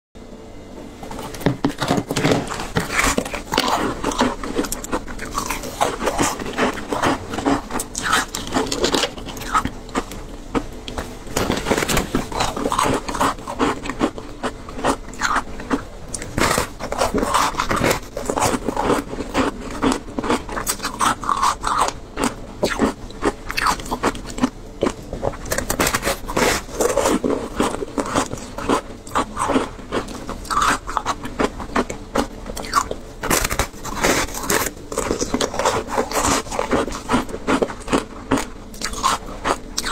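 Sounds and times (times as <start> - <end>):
crunching and chewing ice: 1.1 - 39.9.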